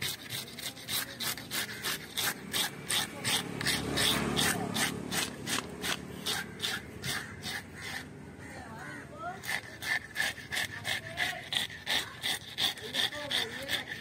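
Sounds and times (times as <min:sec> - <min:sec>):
fish scaler scraping scales: 0:00.0 - 0:08.1, 0:09.3 - 0:14.0.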